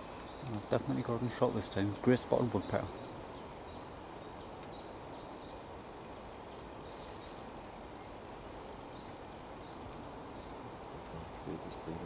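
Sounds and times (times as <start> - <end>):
wind in woodland: 0.0 - 12.0.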